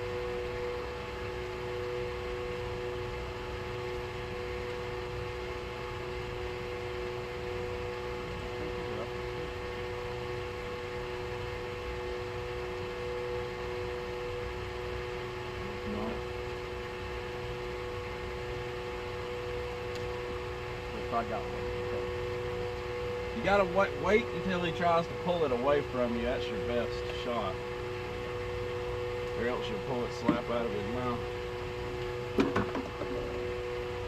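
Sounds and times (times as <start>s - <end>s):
machine hum with two tones: 0.0s - 34.0s.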